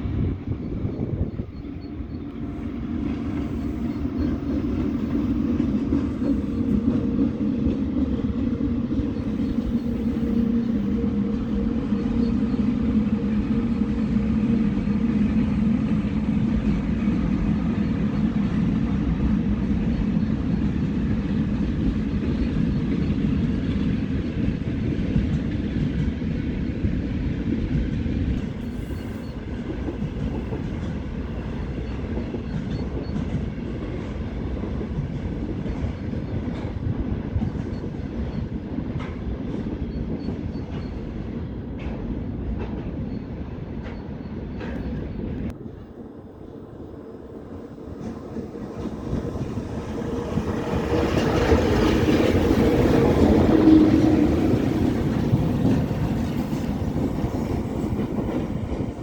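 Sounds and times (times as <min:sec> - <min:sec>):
locomotive hum: 0:00.0 - 0:59.0
low train rumble: 0:00.0 - 0:59.0.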